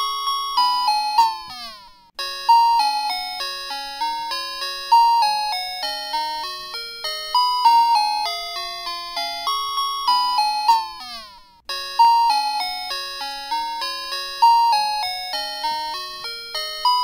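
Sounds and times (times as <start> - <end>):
bell-like melody: 0.0 - 17.0.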